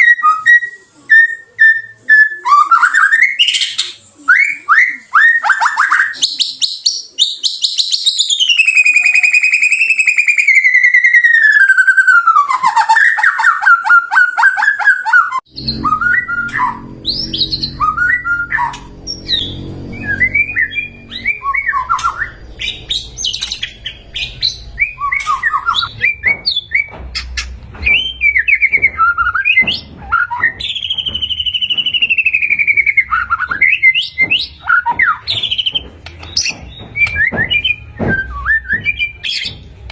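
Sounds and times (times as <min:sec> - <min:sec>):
songbird trilling and whistling: 0:00.0 - 0:39.6.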